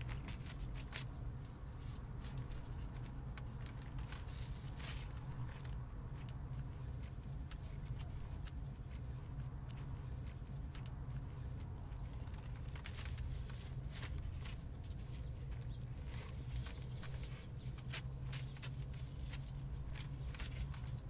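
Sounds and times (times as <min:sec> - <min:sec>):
fibre rustling and crackling: 0:00.0 - 0:21.0
steady low rumble: 0:00.0 - 0:21.0.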